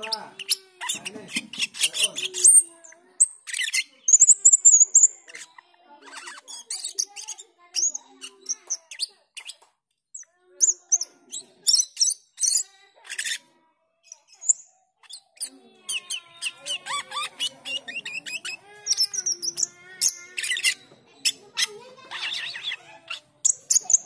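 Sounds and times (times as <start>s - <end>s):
starling singing: 0.0s - 9.6s, 10.2s - 13.5s, 14.1s - 24.0s.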